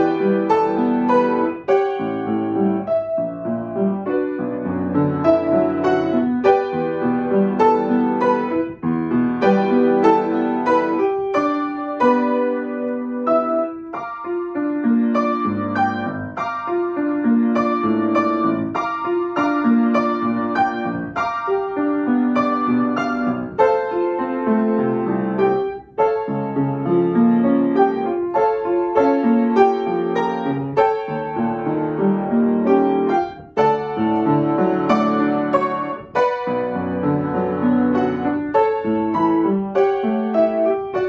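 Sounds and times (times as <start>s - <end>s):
solo acoustic piano: 0.0s - 41.0s.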